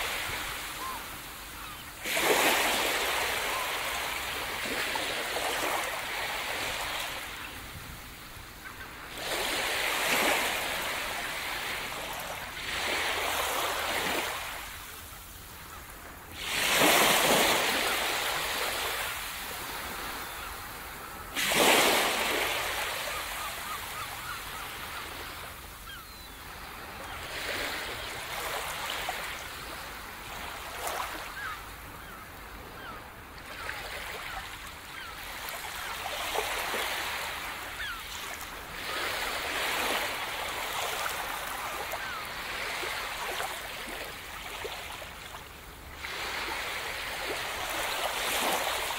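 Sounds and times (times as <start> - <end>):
sea waves breaking on beach: 0.0 - 48.9.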